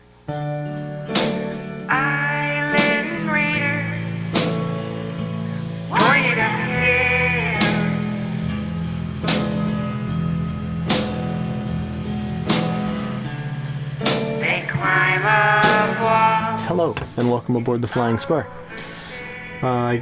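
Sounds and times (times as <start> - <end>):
blues-rock song with vocals: 0.4 - 20.0.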